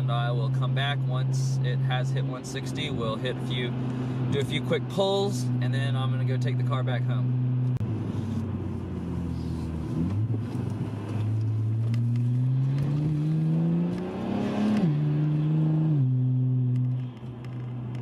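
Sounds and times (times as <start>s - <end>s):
car engine accelerating: 2.8s - 18.0s.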